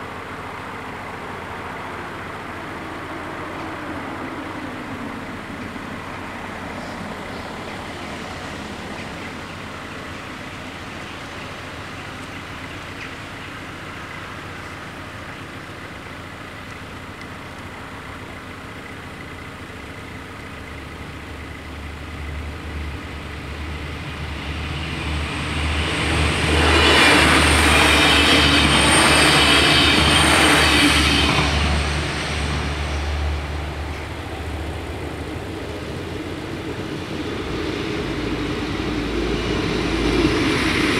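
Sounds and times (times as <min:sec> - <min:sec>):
diesel train passing: 0:00.0 - 0:40.9
low diesel hum: 0:00.0 - 0:40.9.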